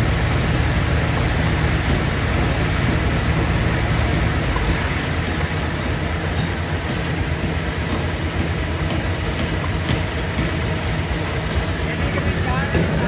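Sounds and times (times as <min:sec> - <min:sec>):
dense rattling hiss: 0:00.0 - 0:13.0
stone crushing machinery rumbling: 0:00.0 - 0:13.0.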